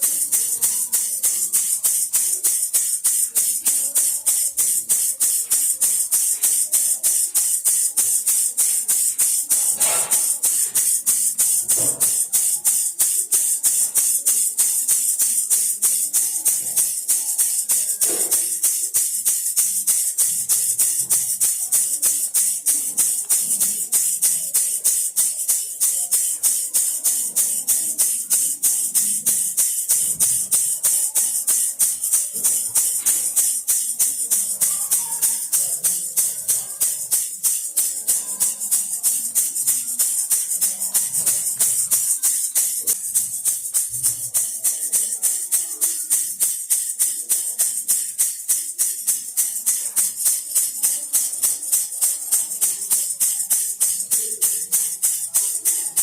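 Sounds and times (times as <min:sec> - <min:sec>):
baby rattle shaking: 0:00.0 - 0:56.0.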